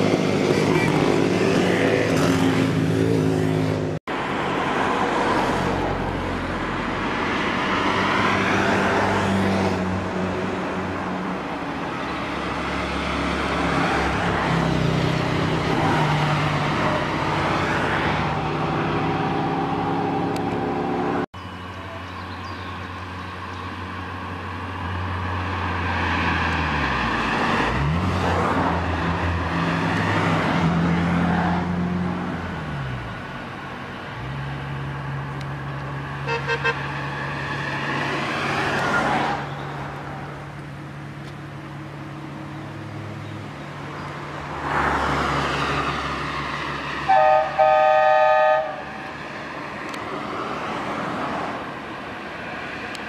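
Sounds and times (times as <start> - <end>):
cars driving past: 0.0 - 53.0.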